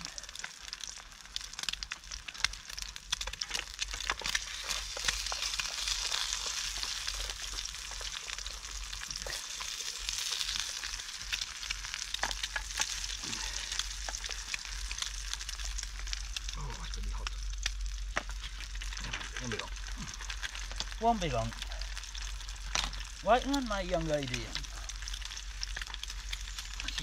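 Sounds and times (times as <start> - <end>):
egg sizzling in oil with pops: 0.0 - 27.0.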